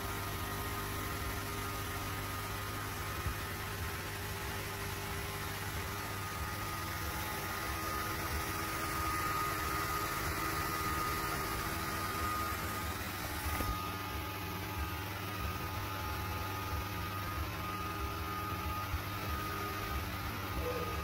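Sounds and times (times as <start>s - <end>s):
laser engraver humming and whining: 0.0s - 21.0s.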